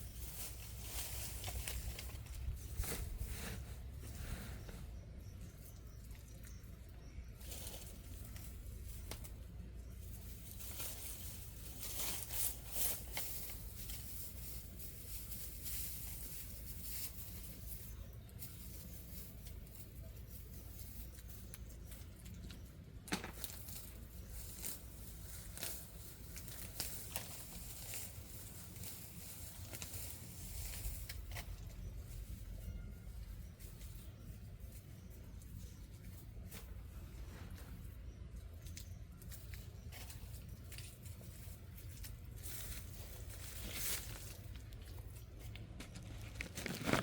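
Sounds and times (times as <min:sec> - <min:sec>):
rustling and crackling: 0:00.0 - 0:06.5, 0:07.3 - 0:47.0
steady low rumble: 0:00.0 - 0:47.0.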